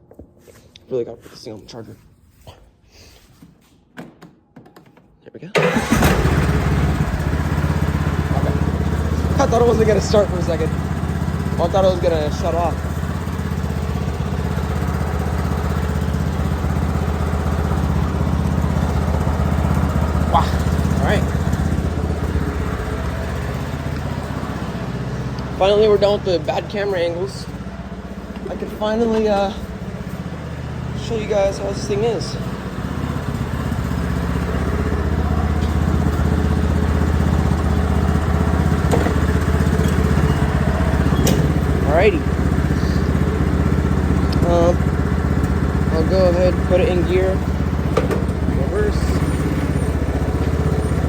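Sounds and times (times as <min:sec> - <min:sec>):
lawn mower engine idling: 0:05.6 - 0:51.0.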